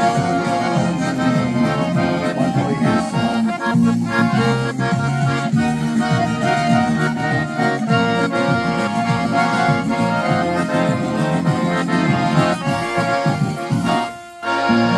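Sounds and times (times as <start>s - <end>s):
button accordion melody: 0.0s - 14.9s.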